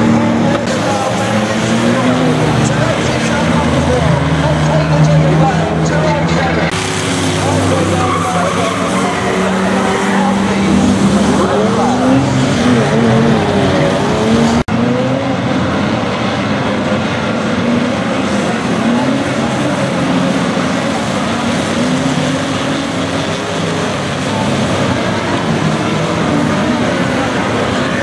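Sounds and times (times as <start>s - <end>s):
race car engines revving: 0.0s - 28.0s.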